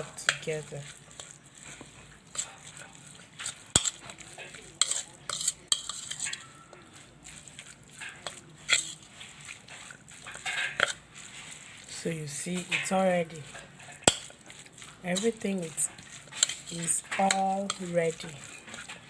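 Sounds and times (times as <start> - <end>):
utensil scraping and clinking bowl: 0.0 - 19.0.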